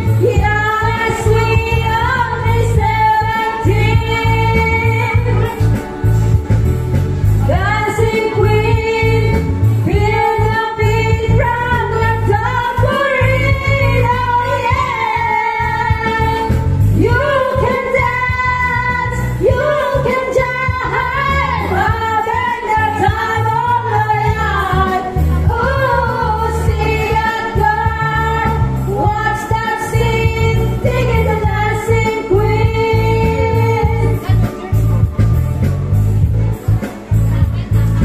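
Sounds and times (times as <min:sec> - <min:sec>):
backing track with bass beat: 0:00.0 - 0:38.0
women singing karaoke: 0:00.0 - 0:38.0.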